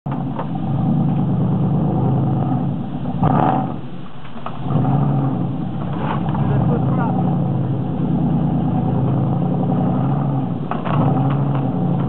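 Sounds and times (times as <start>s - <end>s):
car engine under throttle: 0.0s - 12.0s.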